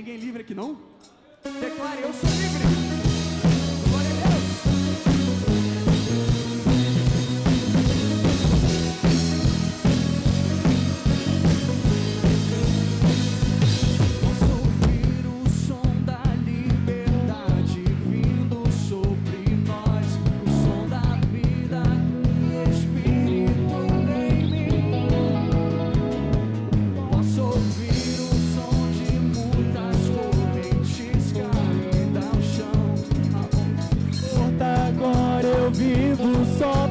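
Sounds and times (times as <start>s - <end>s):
drum kit: 1.5s - 36.9s
live band playing gospel music: 2.0s - 15.3s, 19.7s - 36.9s.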